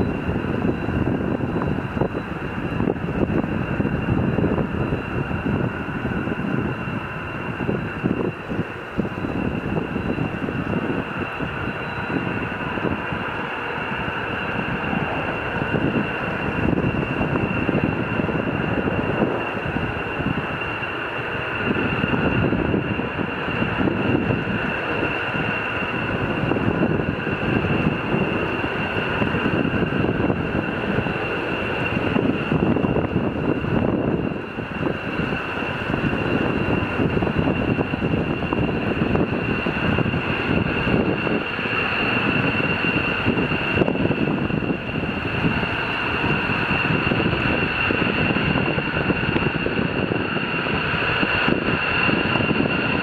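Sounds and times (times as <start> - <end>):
distant aircraft engines whining: 0.0 - 53.0
wind on microphone: 0.0 - 53.0.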